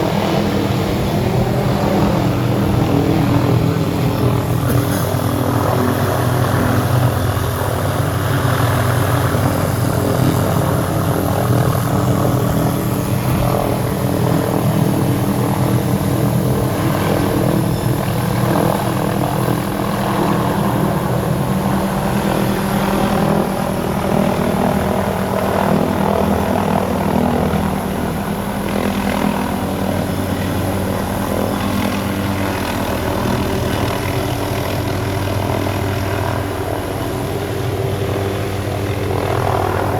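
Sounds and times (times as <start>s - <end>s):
helicopter engine and rotor hum: 0.0s - 39.9s.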